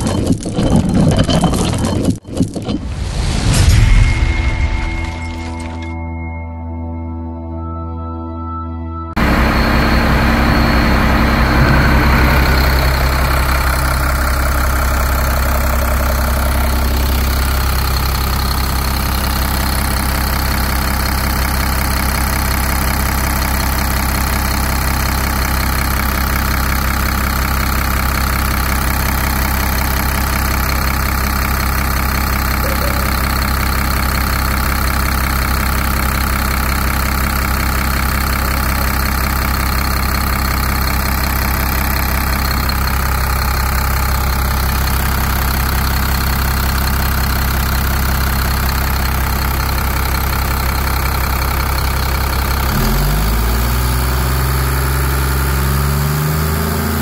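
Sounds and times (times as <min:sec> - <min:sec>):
diesel engine idling: 0:09.2 - 0:57.0.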